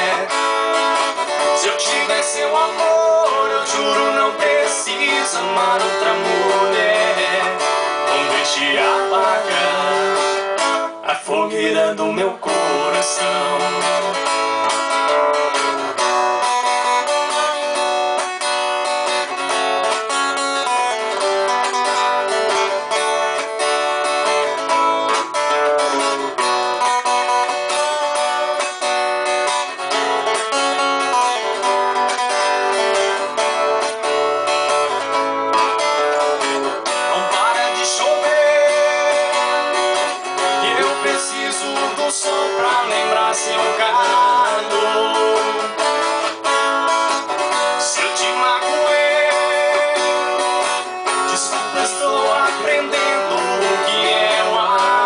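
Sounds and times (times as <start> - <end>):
acoustic guitar plucked and strummed: 0.0 - 55.0.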